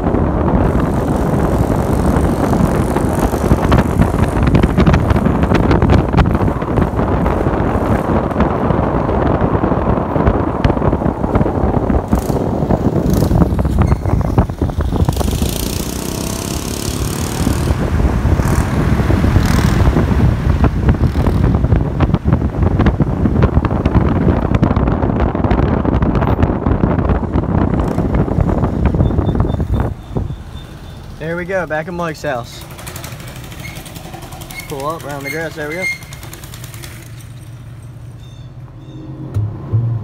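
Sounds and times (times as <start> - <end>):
car road and wind noise: 0.0 - 40.0
wind buffeting microphone: 0.0 - 40.0.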